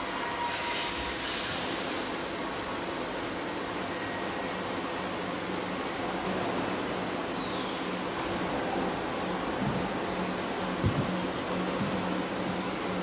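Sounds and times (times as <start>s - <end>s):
machine air rush with whine: 0.0s - 13.0s.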